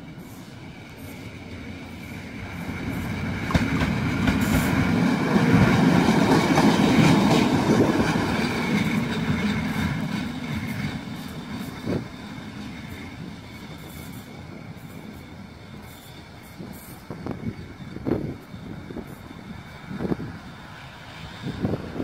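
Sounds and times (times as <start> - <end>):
locomotive wheels rumbling over rails: 0.0 - 22.0.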